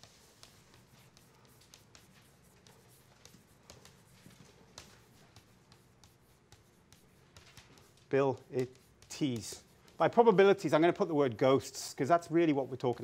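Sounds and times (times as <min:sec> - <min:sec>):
chalk tapping and scratching: 0:00.0 - 0:13.0.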